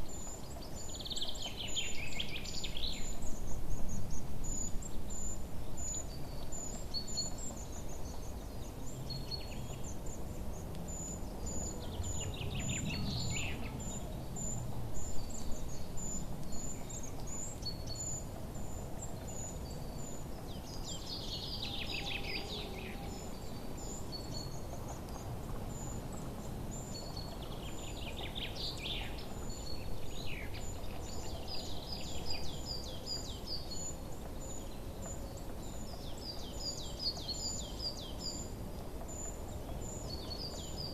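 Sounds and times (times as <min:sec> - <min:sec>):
falling trilled birdsong: 0:00.0 - 0:40.9
songbirds chirping: 0:00.0 - 0:40.9.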